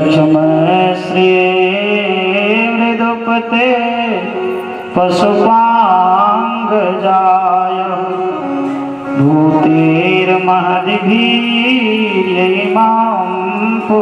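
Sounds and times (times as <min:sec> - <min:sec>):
instrumental accompaniment: 0:00.0 - 0:14.0
man singing devotional chant: 0:00.0 - 0:14.0.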